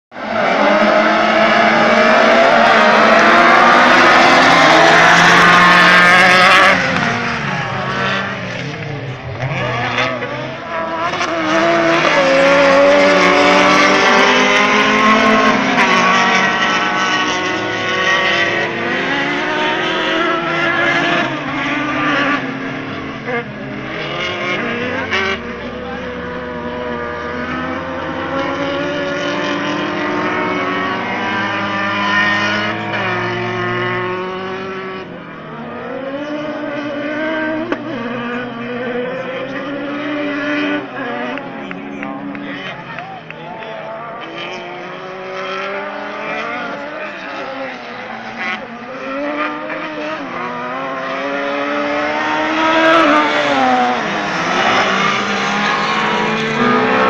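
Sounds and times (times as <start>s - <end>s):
racing buggy engines revving: 0.1s - 57.0s.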